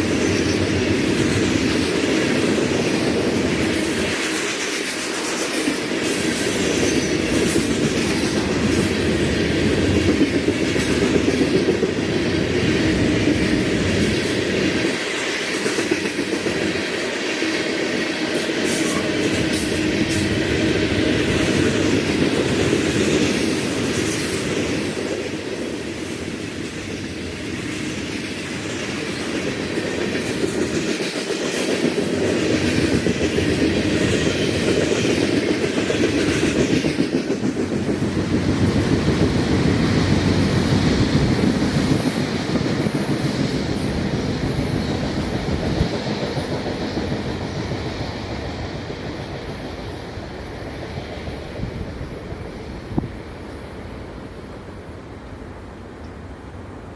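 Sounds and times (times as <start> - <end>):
freight train wheels rattling: 0.0 - 55.5.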